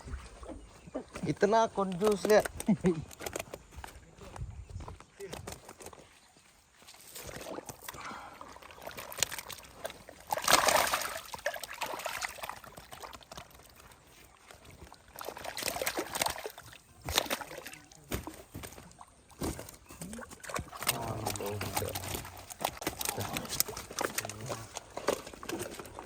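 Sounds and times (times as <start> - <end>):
water splashing and sloshing: 0.0 - 26.0.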